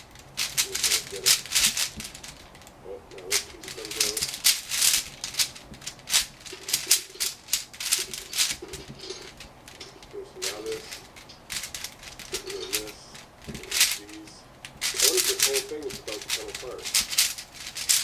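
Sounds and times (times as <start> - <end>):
puzzle pieces clicking: 0.0 - 18.0.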